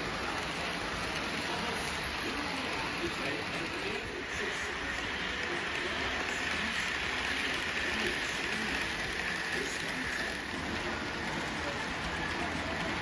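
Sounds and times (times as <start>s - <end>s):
faint background chatter: 0.0s - 13.0s
model trains hissing on track: 0.0s - 13.0s.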